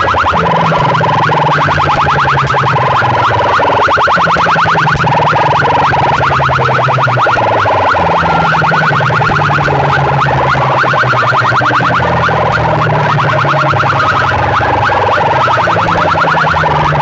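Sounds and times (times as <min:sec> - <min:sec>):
low electronic drone: 0:00.0 - 0:17.0.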